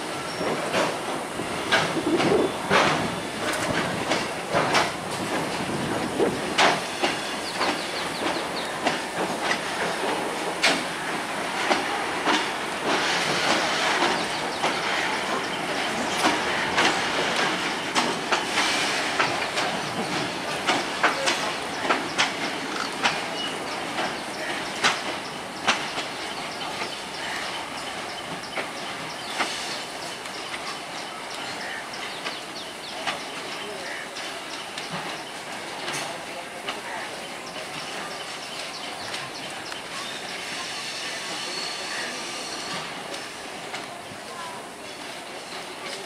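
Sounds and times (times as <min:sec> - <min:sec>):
continuous rolling noise: 0:00.0 - 0:41.0
train wheels clacking: 0:00.0 - 0:46.0.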